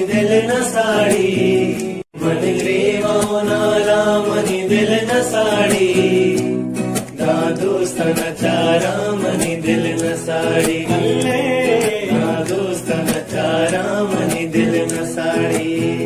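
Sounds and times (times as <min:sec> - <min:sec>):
instrumental backing: 0:00.0 - 0:16.0
person singing: 0:00.0 - 0:16.0.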